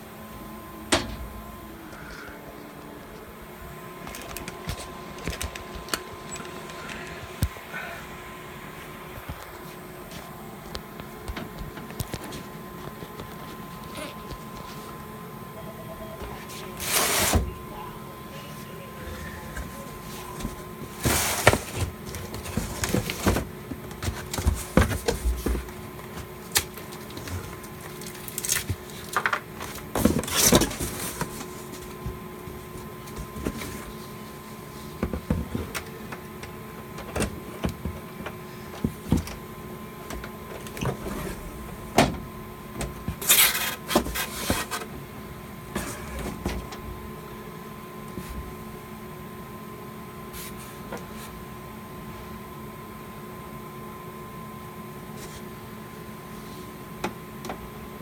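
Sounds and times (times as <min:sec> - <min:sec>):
faint electrical hum: 0:00.0 - 0:58.0.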